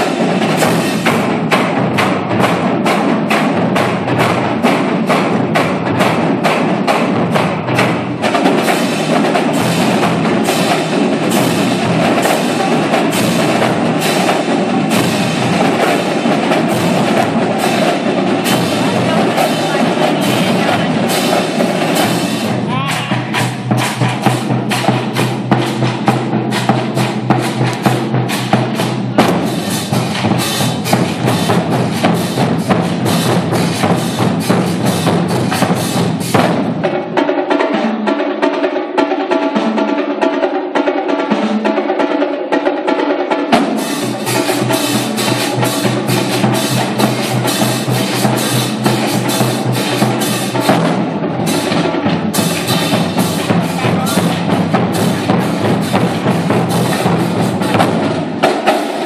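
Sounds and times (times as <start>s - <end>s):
bass drums: 0.0s - 37.0s, 43.5s - 59.0s
marching snare drums: 0.0s - 59.0s.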